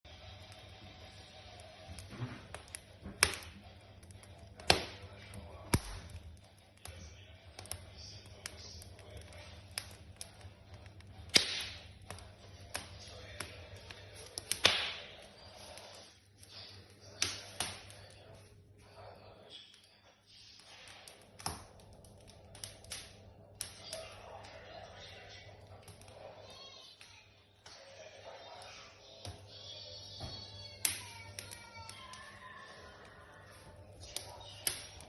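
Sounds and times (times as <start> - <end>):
wood fire crackling and popping: 0.1 - 35.0.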